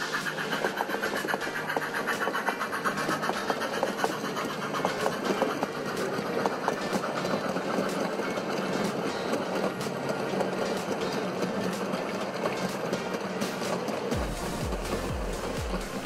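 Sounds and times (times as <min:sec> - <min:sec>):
model train wheels rumbling: 0:00.0 - 0:16.0
wheels clicking over track joints: 0:00.0 - 0:16.0.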